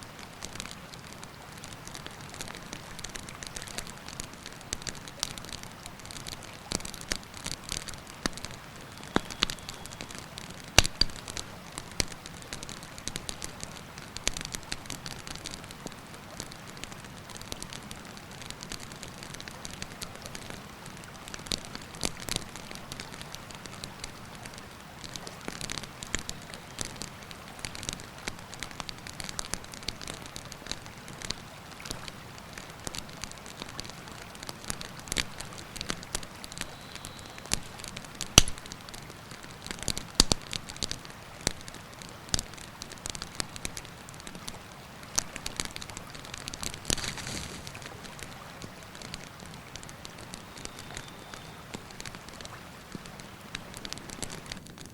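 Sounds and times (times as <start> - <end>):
campfire crackling and popping: 0.2 - 54.9.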